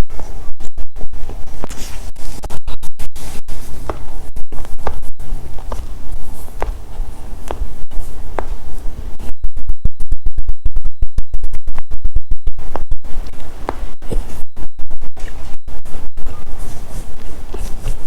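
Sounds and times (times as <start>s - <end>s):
faint high whine: 0.0s - 18.0s
microphone crackling and buzzing: 0.0s - 18.0s.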